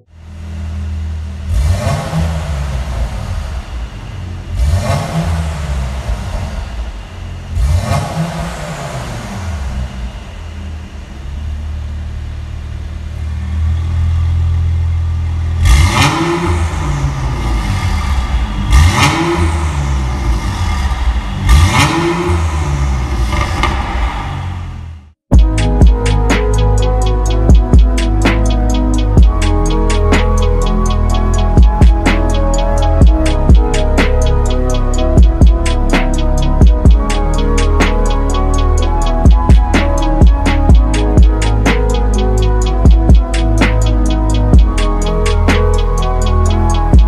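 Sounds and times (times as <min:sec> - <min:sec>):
car engine idling: 0:00.0 - 0:23.8, 0:24.4 - 0:47.0
car engine revving: 0:00.0 - 0:47.0.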